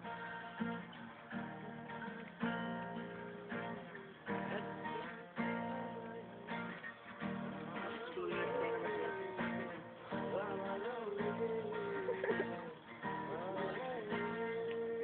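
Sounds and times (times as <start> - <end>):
acoustic guitar strummed: 0.0 - 15.0.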